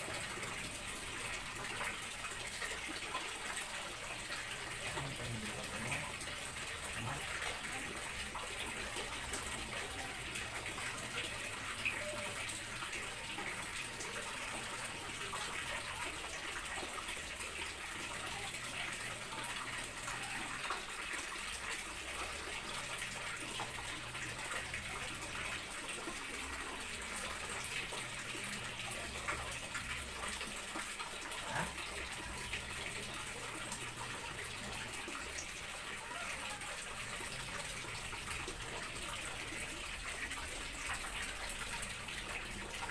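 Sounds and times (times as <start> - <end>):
tap water running into drum: 0.0 - 42.9.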